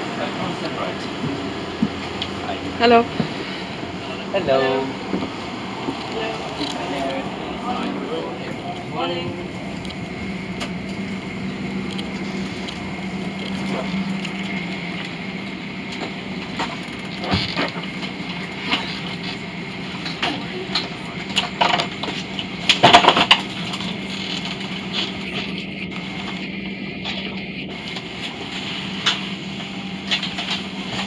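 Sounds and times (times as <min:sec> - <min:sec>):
ventilation hum: 0:00.0 - 0:31.0.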